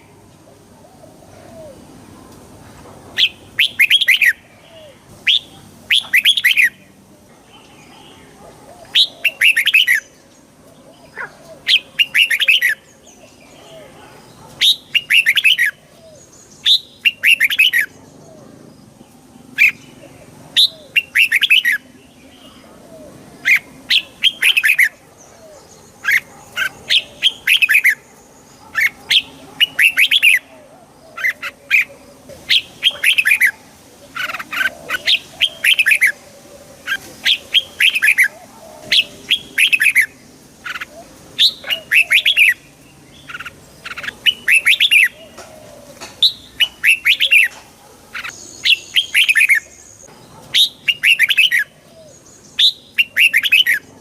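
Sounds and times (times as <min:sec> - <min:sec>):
bulbul singing: 0:03.2 - 0:54.0.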